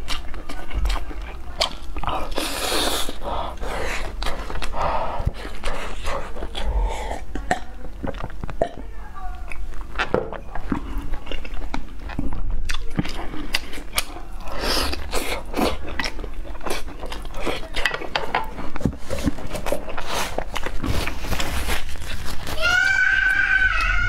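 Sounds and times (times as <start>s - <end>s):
chewing and biting meat: 0.0s - 8.8s, 9.5s - 22.5s.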